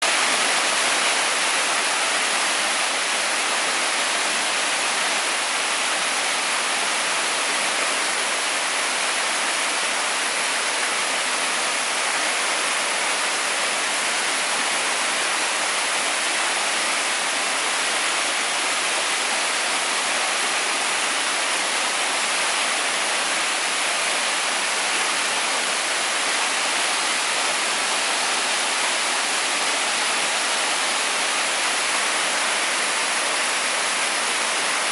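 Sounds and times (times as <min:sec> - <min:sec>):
waterfall running: 0:00.0 - 0:34.9.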